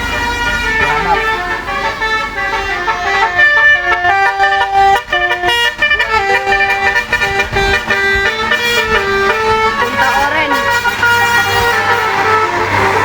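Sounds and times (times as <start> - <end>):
bus musical horn playing tune: 0.0 - 13.0.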